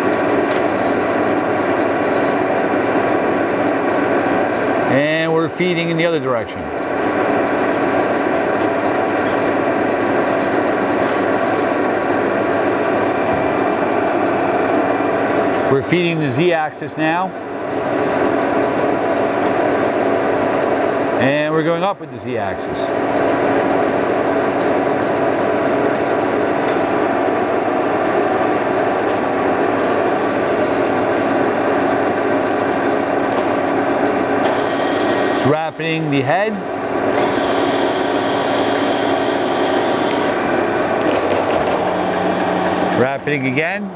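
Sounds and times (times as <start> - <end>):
lathe mechanical drone: 0.0 - 43.9.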